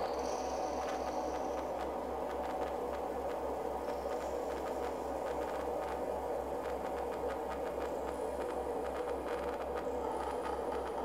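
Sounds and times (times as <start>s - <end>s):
low pulsing hum: 0.0s - 11.0s
steady wash of noise: 0.0s - 11.0s
faint ticks: 0.1s - 11.0s.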